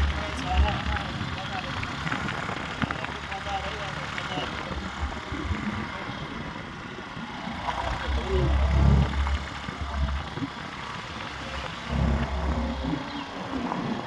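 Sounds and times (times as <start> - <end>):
motorcycle engine and road noise: 0.0 - 14.0.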